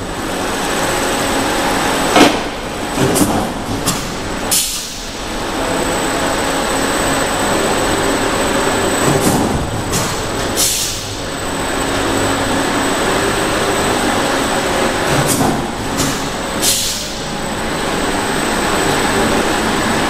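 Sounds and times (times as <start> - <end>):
industrial fryer machinery running: 0.0 - 20.0.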